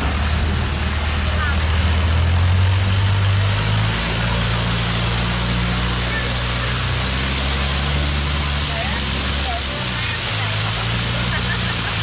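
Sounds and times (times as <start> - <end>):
boat engine running: 0.0 - 12.0
water rushing past hull: 0.0 - 12.0
wind: 0.0 - 12.0.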